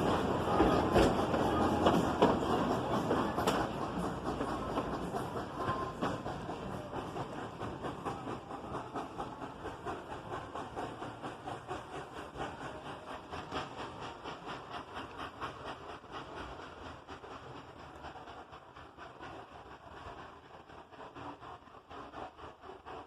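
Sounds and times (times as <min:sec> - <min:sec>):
steam hiss: 0:00.0 - 0:23.0
steam train moving on track: 0:00.0 - 0:23.0.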